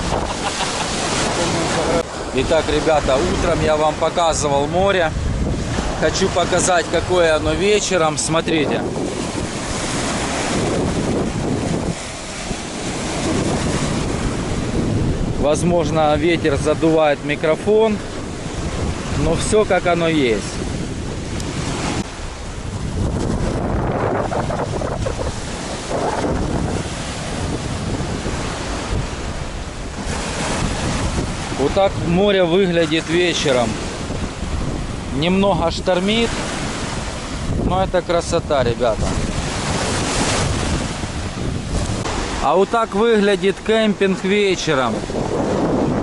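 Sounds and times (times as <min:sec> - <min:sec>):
waves breaking on shore: 0:00.0 - 0:46.0
wind buffeting microphone: 0:00.0 - 0:46.0.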